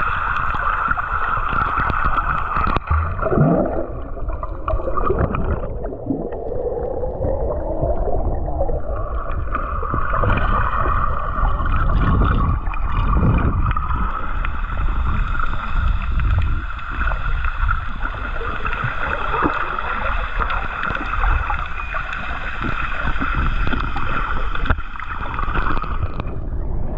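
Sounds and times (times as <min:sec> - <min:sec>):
bubbles rushing: 0:00.0 - 0:26.9
low rumbling water noise: 0:00.0 - 0:26.9.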